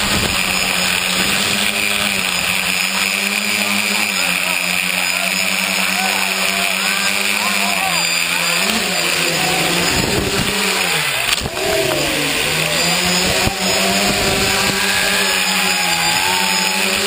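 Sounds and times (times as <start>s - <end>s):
drone motors and propellers buzzing: 0.0s - 17.0s.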